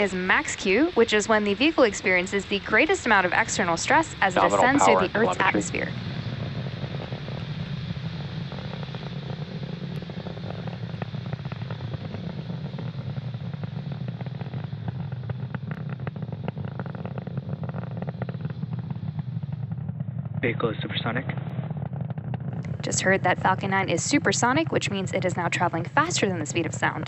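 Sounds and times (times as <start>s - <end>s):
rocket engines rumbling and crackling: 0.0s - 27.0s.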